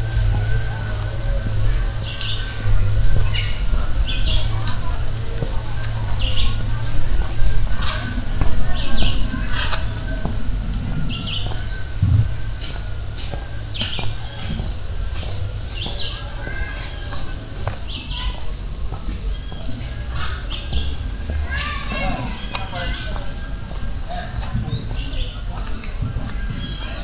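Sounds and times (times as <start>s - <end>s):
low steady rumble: 0.0s - 26.7s
birds chirping: 0.0s - 27.0s.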